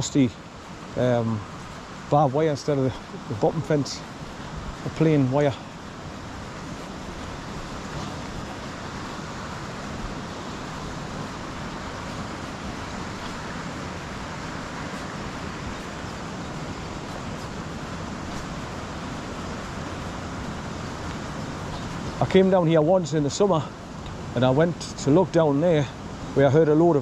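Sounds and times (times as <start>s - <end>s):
water rushing over rocks: 0.0s - 27.0s.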